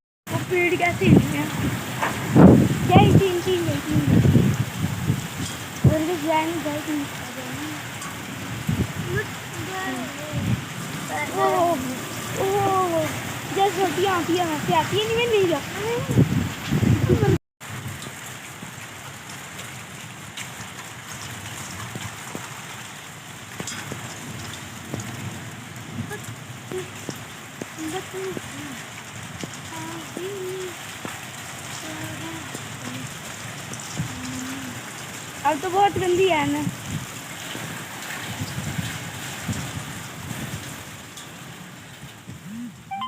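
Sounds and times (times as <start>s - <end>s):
heavy rain falling: 0.3s - 43.0s.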